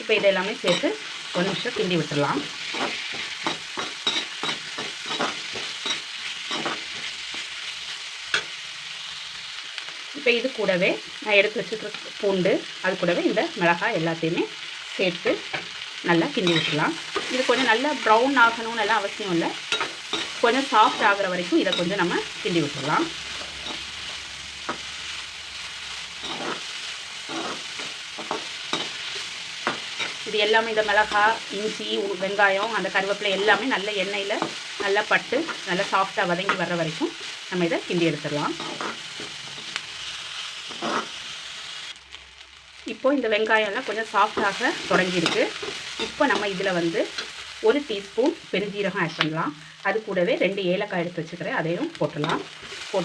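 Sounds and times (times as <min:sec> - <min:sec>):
onions sizzling in hot oil: 0:00.0 - 0:53.0.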